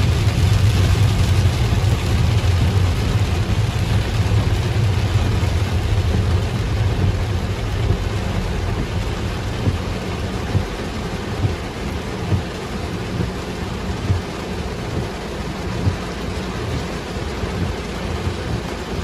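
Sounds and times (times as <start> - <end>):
heavy rain drumming on car roof: 0.0 - 19.0
low rumble: 0.0 - 19.0.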